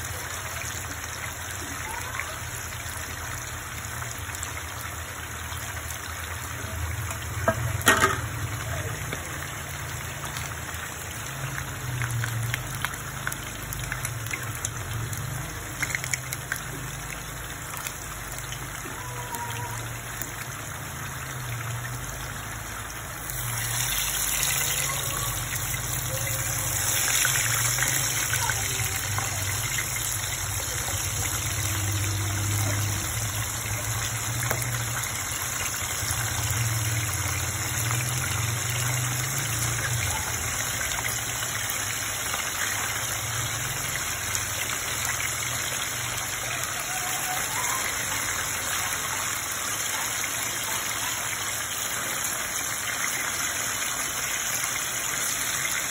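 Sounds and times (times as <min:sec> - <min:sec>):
chicken sizzling in oil: 0:00.0 - 0:55.9.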